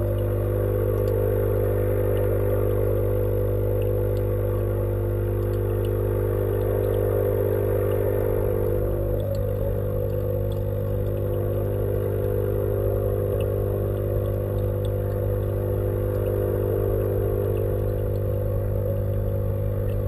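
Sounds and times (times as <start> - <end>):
faint ticks: 0.0 - 20.0
pump humming underwater: 0.0 - 20.0.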